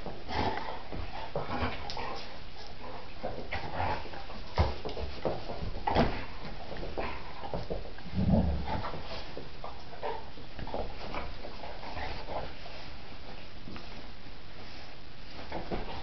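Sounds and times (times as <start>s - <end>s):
dogs scuffling: 0.0s - 16.0s.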